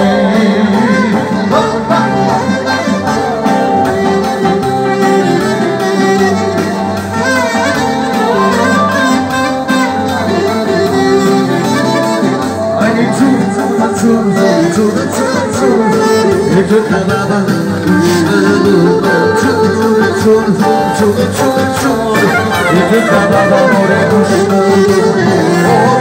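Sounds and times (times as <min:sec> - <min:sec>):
clarinet melody: 0:00.0 - 0:26.0
keyboard: 0:00.0 - 0:26.0.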